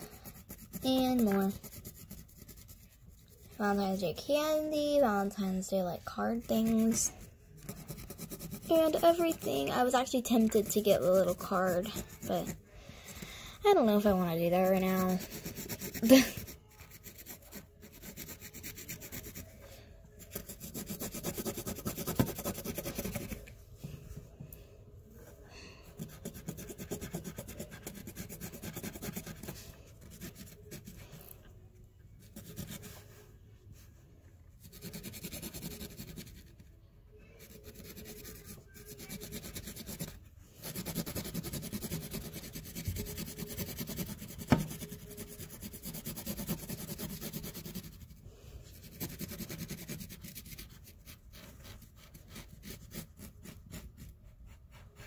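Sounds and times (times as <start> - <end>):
marker scrubbing on fabric: 0.0 - 23.5, 25.9 - 31.3, 32.1 - 33.3, 34.6 - 36.7, 37.3 - 55.0.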